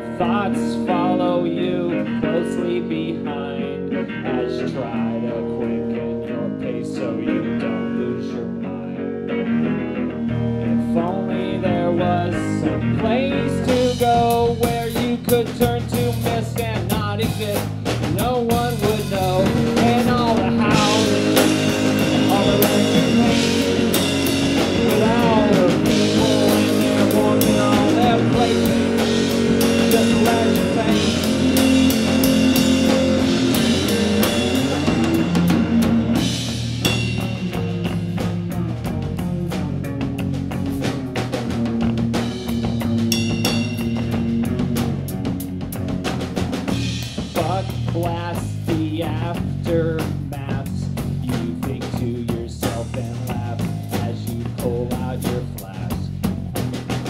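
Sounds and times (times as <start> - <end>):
bass guitar: 0.0 - 57.0
electric guitar: 0.0 - 57.0
drum kit with cymbals: 10.2 - 57.0.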